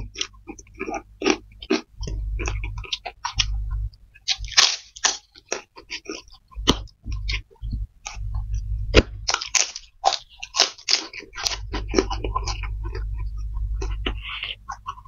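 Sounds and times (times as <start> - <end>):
crackers crunching: 0.0 - 3.6, 4.2 - 15.0
chewing noodles: 0.0 - 15.0.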